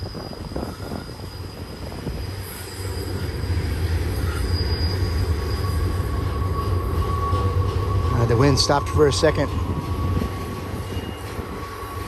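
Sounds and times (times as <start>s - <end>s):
freight train rumbling: 0.0s - 12.0s
train wheels squealing: 0.0s - 12.0s.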